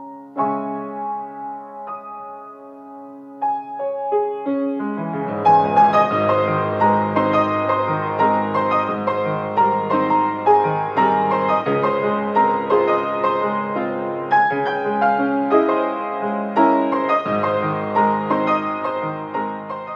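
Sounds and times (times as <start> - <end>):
gentle piano piece: 0.0 - 19.9.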